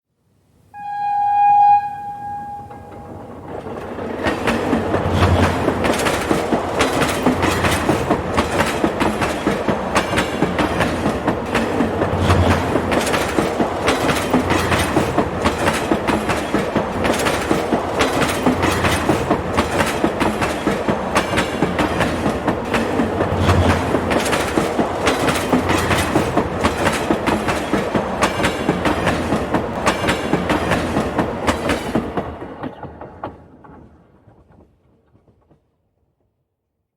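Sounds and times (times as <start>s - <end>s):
train wheels clattering: 2.4s - 35.7s.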